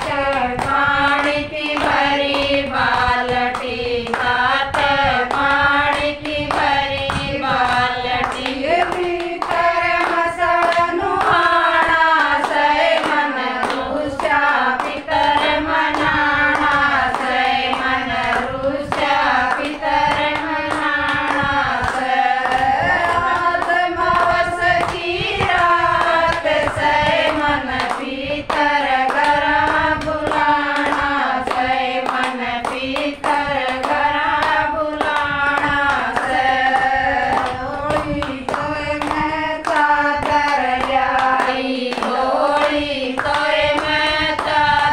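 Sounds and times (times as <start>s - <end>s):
rhythmic hand clapping: 0.0s - 44.9s
women singing together: 0.0s - 44.9s.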